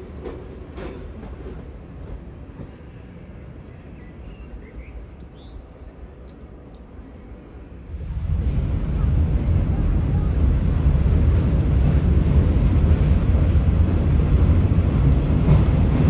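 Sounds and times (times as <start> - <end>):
train rumbling over tracks: 0.0 - 16.0.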